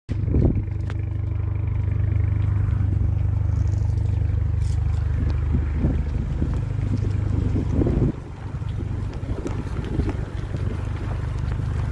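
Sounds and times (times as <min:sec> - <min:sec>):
engine rumbling through exhaust: 0:00.1 - 0:11.9.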